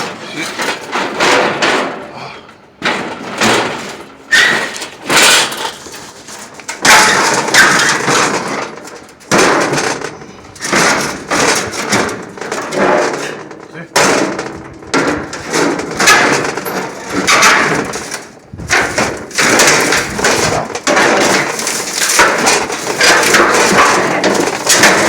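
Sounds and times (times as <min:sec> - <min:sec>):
sheet metal banging and clattering: 0:00.0 - 0:25.0.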